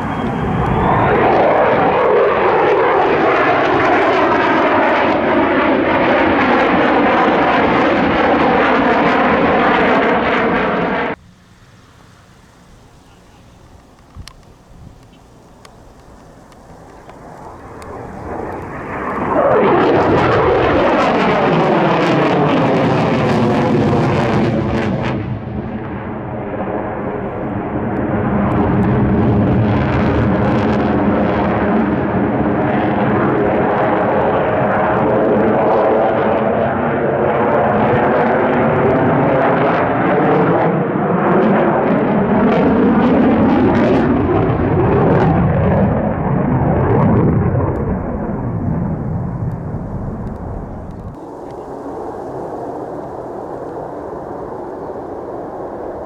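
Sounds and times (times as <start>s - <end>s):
aircraft engine passing low: 0.0s - 56.0s.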